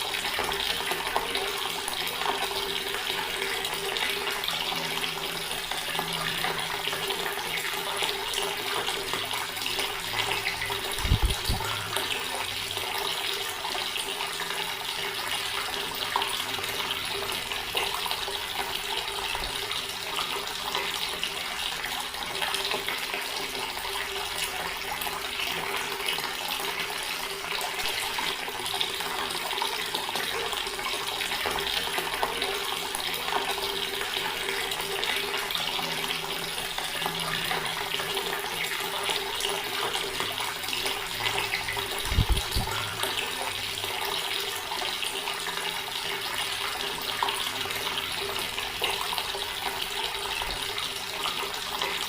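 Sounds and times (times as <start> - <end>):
tap water splashing into basin: 0.0 - 52.0.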